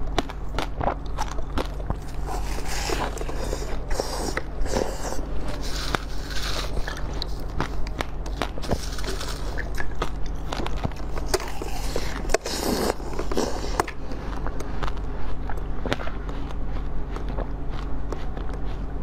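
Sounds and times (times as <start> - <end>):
crunching frozen food: 0.0 - 19.0
steady low hum: 0.0 - 19.0.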